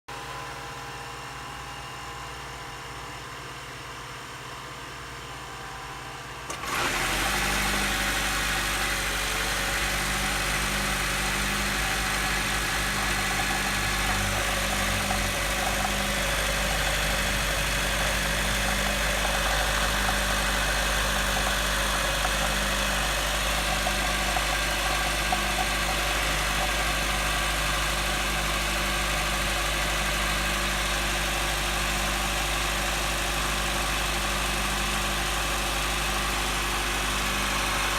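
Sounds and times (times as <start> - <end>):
car engine starting and running: 6.5 - 37.9.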